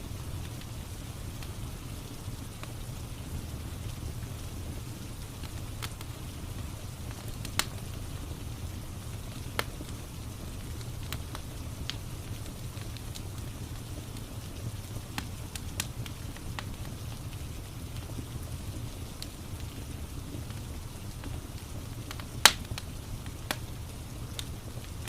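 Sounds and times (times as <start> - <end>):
log fire crackling: 0.0 - 25.0
low rumble of rain: 0.0 - 25.0.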